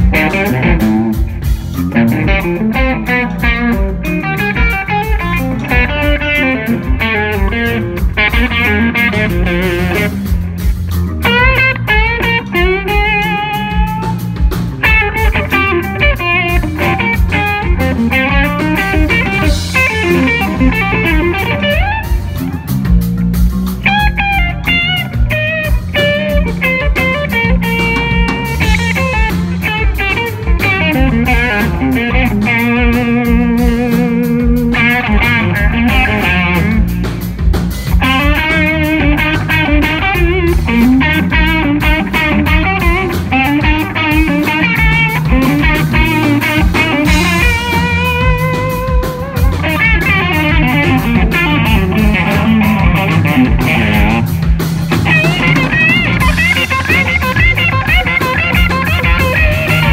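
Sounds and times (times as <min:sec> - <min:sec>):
drum and bass groove: 0:00.0 - 0:59.9
lead electric guitar: 0:00.0 - 0:59.9.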